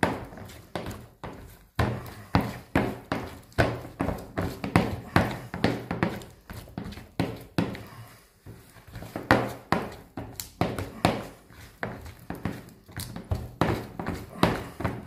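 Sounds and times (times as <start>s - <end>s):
hand slapping wet dough: 0.0s - 15.0s.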